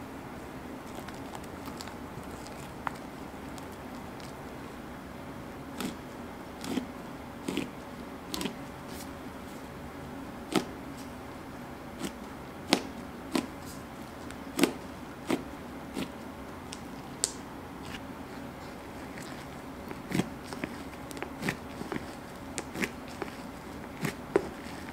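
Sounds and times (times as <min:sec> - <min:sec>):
steady background hum: 0:00.0 - 0:24.9.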